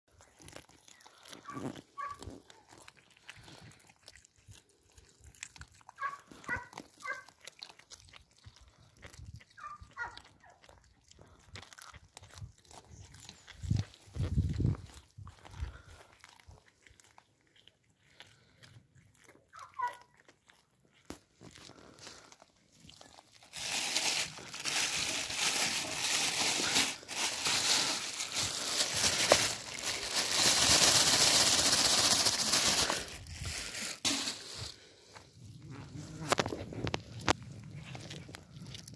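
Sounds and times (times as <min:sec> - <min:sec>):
cats crunching fish: 0:00.1 - 0:38.9.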